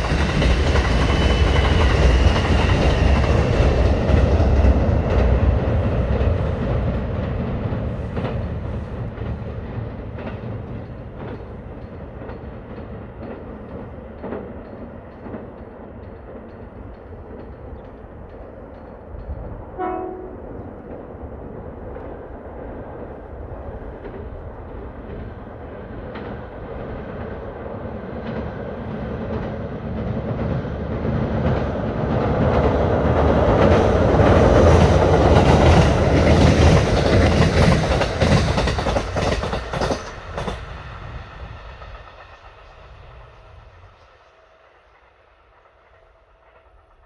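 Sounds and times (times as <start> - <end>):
wheels clacking over rail joints: 0.0 - 21.2, 23.9 - 43.7
electric train rumble: 0.0 - 47.0.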